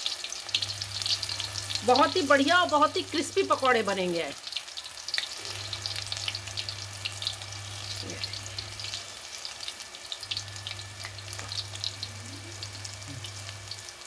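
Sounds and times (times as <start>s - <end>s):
fritters sizzling in hot oil: 0.0s - 14.0s.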